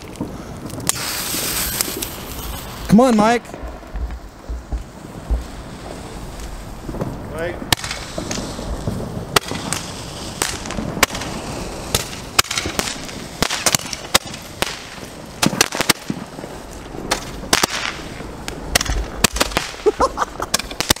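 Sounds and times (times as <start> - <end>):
hiss of burning tubes: 0.0 - 21.0.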